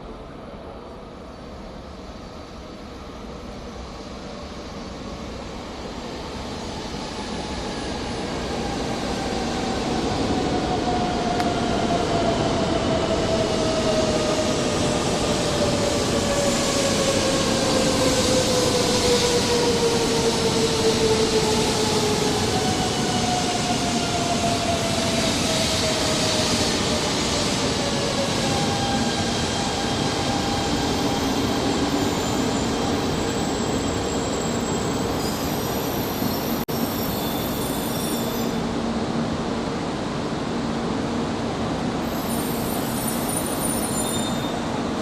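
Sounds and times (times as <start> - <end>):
falling multi-tone train whine: 0.0 - 45.0
high-speed train running noise: 0.0 - 45.0.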